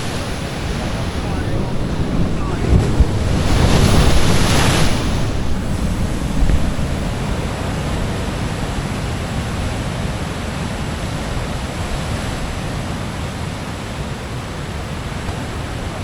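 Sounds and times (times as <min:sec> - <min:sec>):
heavy ocean surf: 0:00.0 - 0:16.0
wind noise on microphone: 0:00.0 - 0:16.0.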